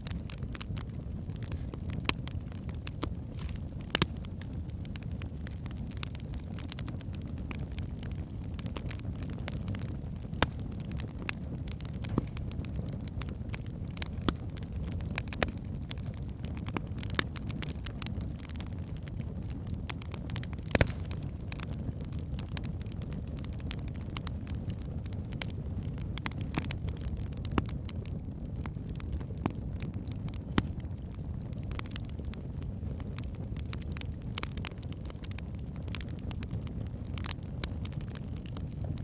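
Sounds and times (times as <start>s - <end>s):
fire rumbling: 0.0s - 39.0s
wood crackling and popping: 0.0s - 39.0s.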